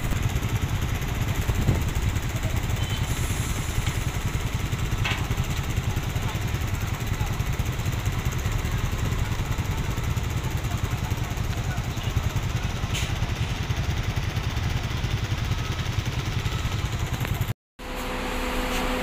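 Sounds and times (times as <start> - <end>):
motorcycle engine idling: 0.0 - 17.5.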